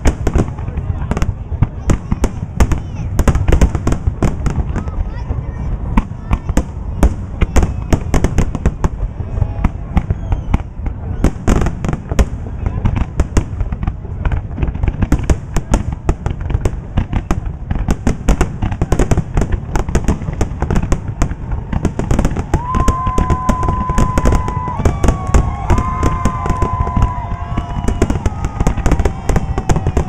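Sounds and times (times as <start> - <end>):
deep fireworks booms: 0.0 - 30.0
fireworks bangs and crackles: 0.0 - 30.0.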